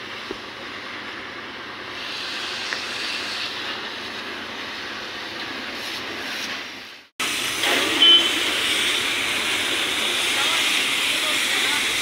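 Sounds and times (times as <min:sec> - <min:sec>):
hose spray hissing: 0:01.8 - 0:12.0.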